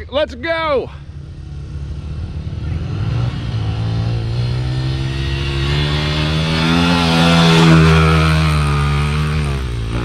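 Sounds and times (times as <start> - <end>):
dirt bike engine accelerating: 0.6 - 10.0.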